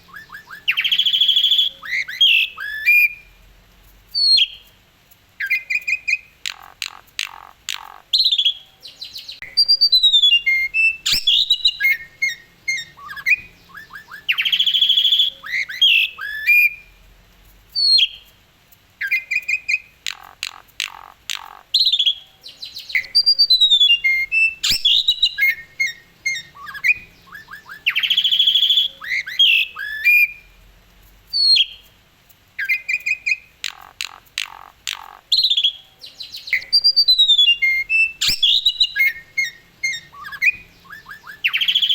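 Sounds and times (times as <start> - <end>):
starling singing: 0.0 - 3.4, 5.4 - 17.0, 19.0 - 30.5, 32.6 - 41.9.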